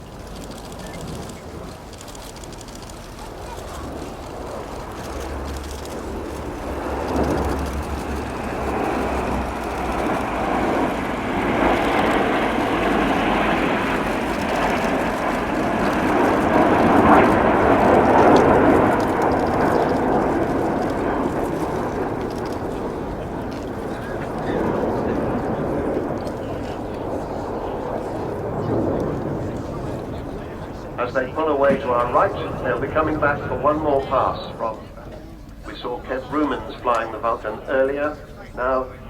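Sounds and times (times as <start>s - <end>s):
jets passing in flypast: 0.0s - 39.0s.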